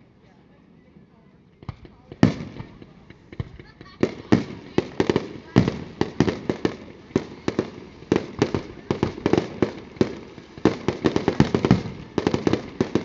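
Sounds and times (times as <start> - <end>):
fireworks bursts and bangs: 1.6 - 13.0.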